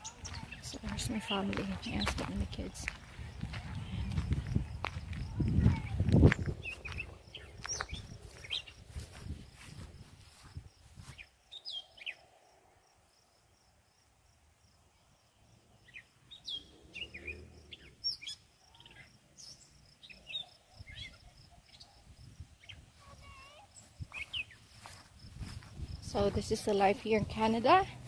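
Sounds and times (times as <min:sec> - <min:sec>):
wild birds chirping: 0:00.0 - 0:09.8, 0:11.0 - 0:28.0
faint outdoor background noise: 0:00.0 - 0:28.0.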